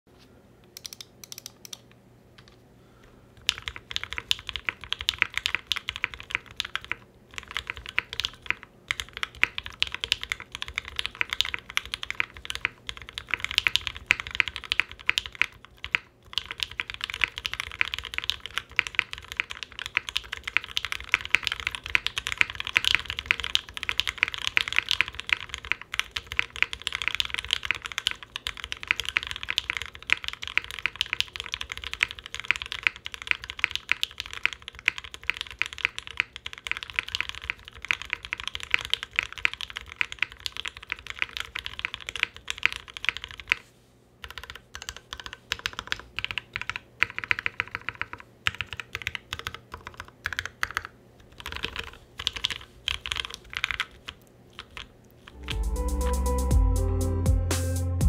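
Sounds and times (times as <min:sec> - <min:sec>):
fast typing on mechanical keyboard: 0:03.4 - 0:43.6, 0:44.2 - 0:55.6.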